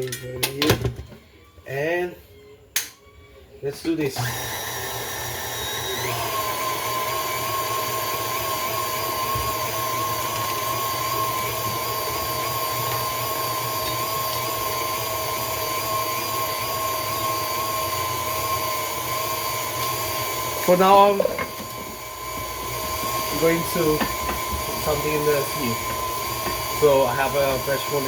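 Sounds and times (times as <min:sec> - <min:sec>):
appliance motor whining: 0:02.3 - 0:28.0.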